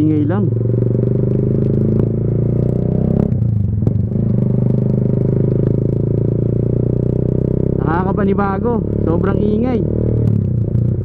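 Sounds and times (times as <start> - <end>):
motorcycle engine running loud: 0.0 - 11.0.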